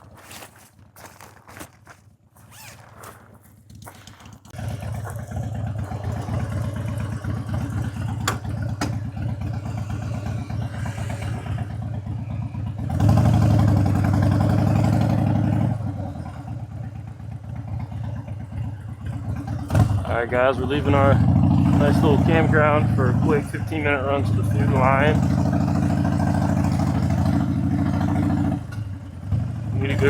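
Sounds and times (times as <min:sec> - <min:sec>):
motorcycle engine idling: 0:03.6 - 0:30.0.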